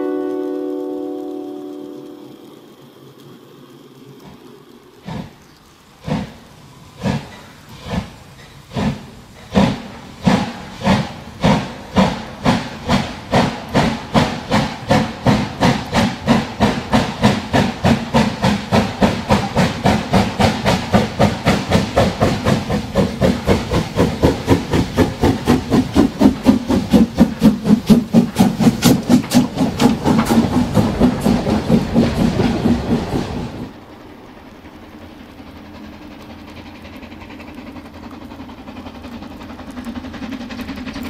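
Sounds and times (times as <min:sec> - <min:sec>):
steam locomotive chuffing: 0:01.7 - 0:41.0.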